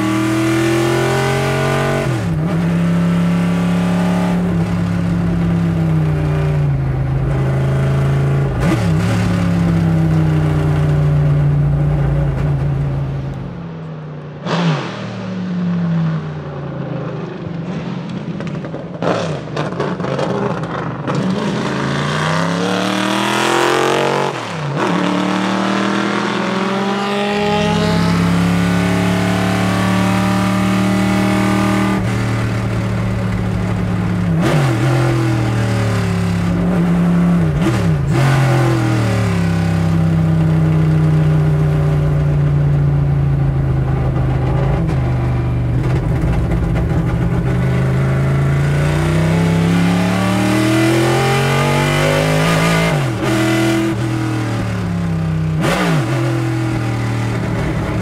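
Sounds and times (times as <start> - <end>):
race car engine at high revs: 0.0 - 13.5, 14.3 - 58.0.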